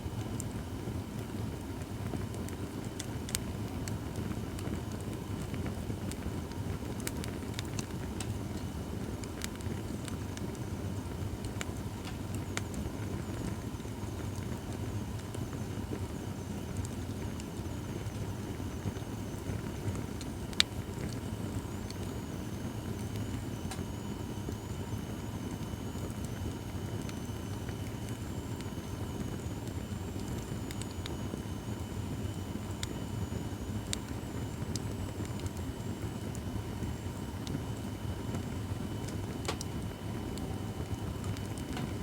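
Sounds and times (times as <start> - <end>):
fire crackles and pops: 0.0 - 42.0
low rumble of flames: 0.0 - 42.0.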